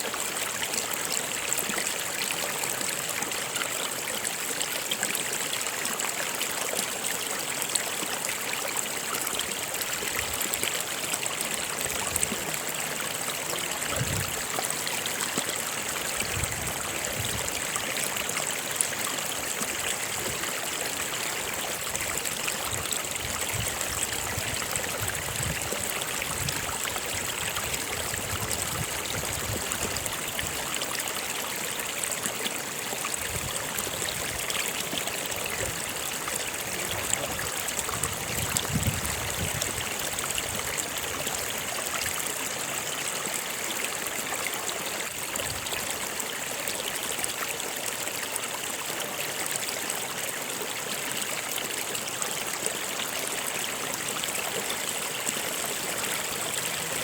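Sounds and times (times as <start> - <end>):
stream running and trickling: 0.0 - 57.0.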